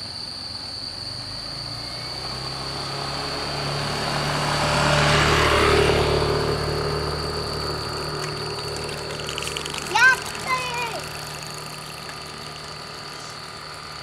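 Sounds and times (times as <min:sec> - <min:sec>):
high insect-like trill: 0:00.0 - 0:14.0
vehicle engine passing by: 0:01.2 - 0:14.0.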